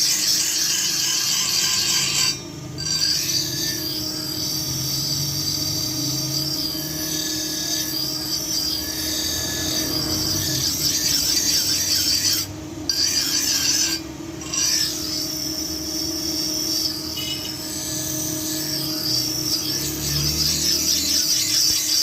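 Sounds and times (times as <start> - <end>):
steel blade being sharpened: 0.0 - 22.0.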